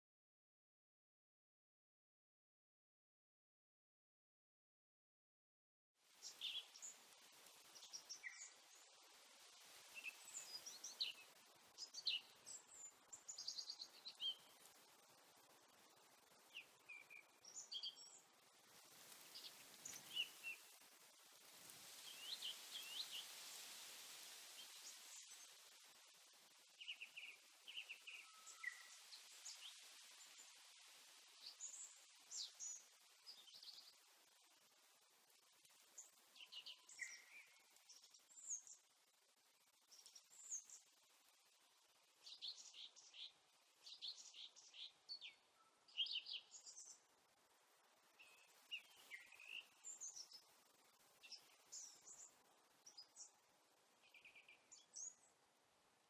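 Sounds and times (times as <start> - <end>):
small birds chirping: 6.1 - 55.6.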